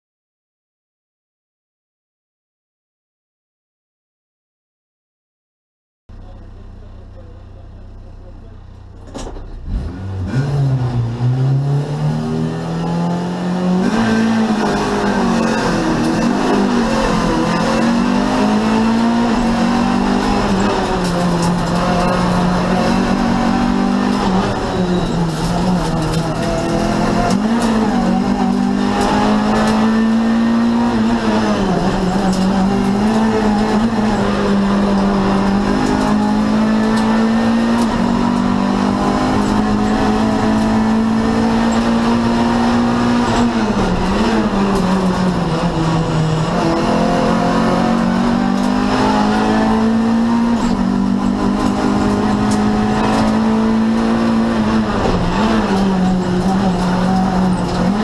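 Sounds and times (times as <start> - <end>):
race car engine at high revs: 9.1 - 58.0.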